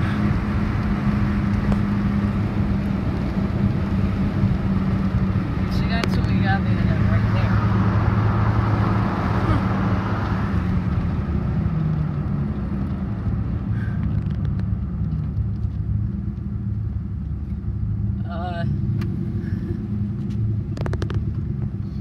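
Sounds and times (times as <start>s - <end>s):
car engine and tyres droning: 0.0s - 22.0s.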